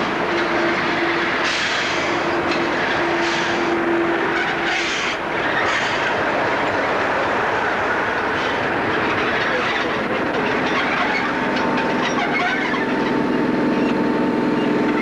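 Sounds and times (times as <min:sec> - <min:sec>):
train running noise: 0:00.0 - 0:15.0
train wheels clattering over joints: 0:00.0 - 0:15.0.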